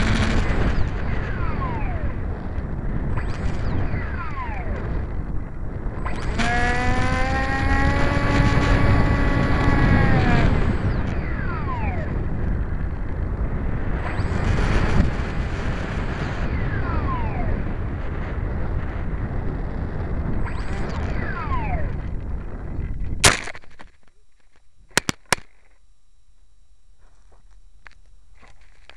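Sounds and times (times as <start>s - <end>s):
falling whine: 0.0s - 23.3s
wind rushing over camera: 0.0s - 24.0s.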